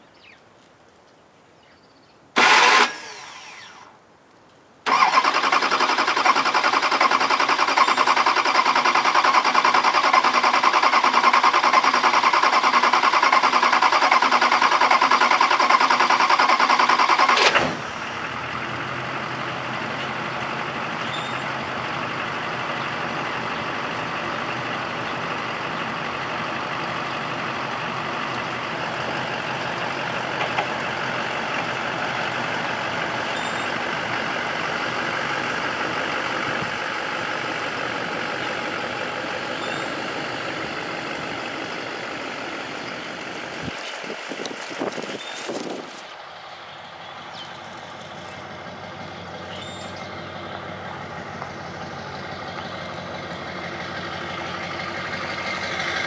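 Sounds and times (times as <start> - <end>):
diesel engine running: 2.4 - 3.9, 4.9 - 56.0.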